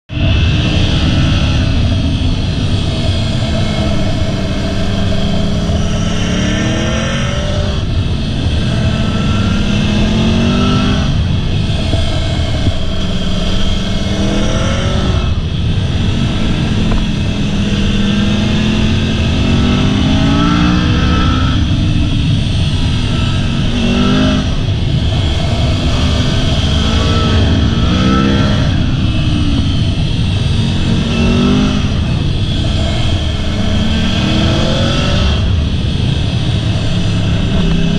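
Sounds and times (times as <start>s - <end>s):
motorcycle engine revving: 0.1s - 37.9s
wind rush on microphone: 0.1s - 37.9s.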